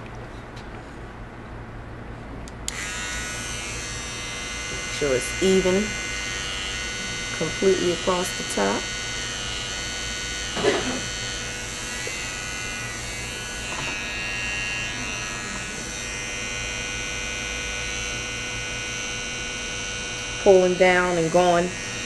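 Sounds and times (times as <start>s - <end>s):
electric hair clippers buzzing: 2.5s - 22.0s.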